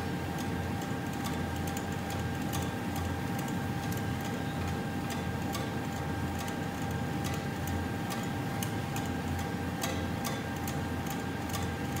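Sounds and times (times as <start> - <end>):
conveyor drive humming: 0.0 - 12.0.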